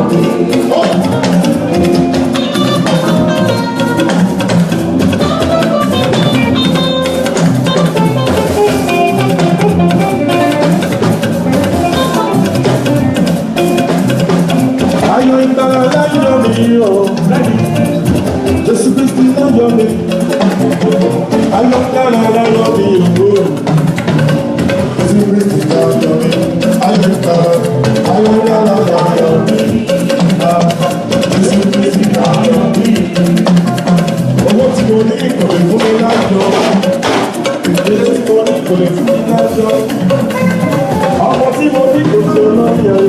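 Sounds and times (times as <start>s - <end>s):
band music with drum kit: 0.0s - 43.0s.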